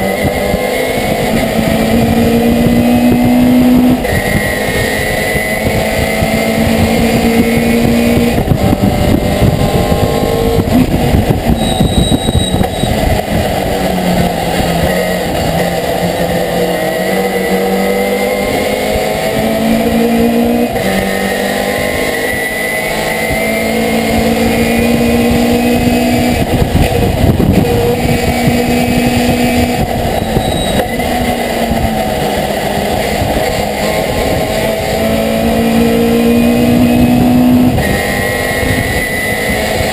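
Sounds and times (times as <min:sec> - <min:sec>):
engine at full throttle: 0:00.0 - 0:39.9.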